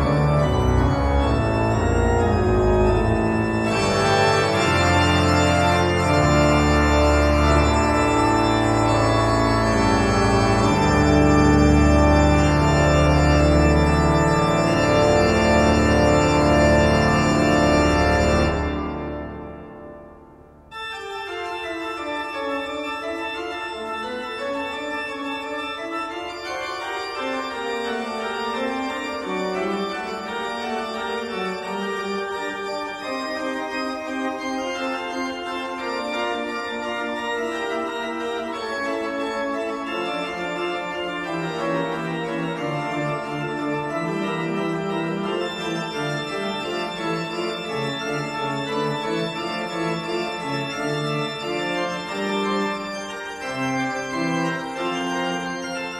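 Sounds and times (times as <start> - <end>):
organ-like music: 0.0 - 55.9.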